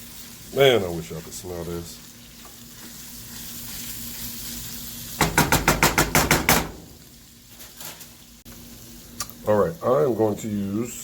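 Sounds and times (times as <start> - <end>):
sausage sizzling in a frying pan: 0.0 - 11.0.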